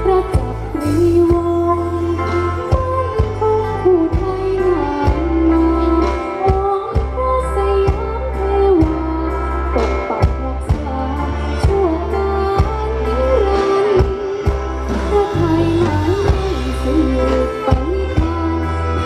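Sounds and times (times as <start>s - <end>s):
band music with singer: 0.0s - 19.0s.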